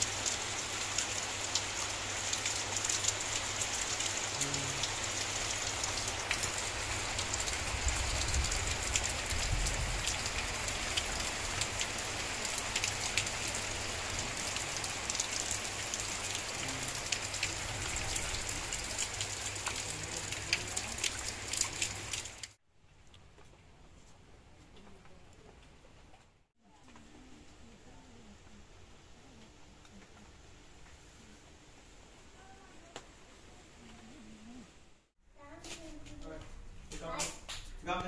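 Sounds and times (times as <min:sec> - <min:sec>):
steady rain on wet ground: 0:00.0 - 0:22.6, 0:26.8 - 0:34.8, 0:35.4 - 0:38.0.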